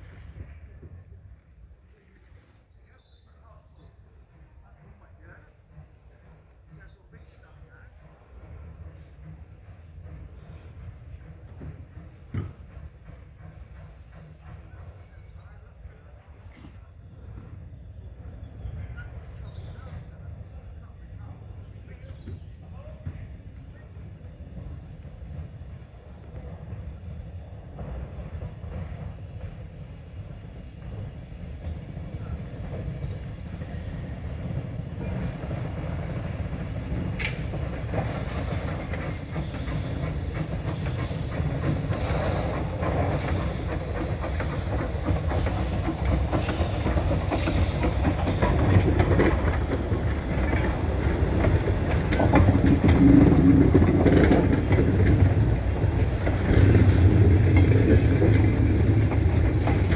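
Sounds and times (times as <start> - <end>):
steam train rumbling: 0.0 - 59.9
train wheels clicking: 4.6 - 59.9.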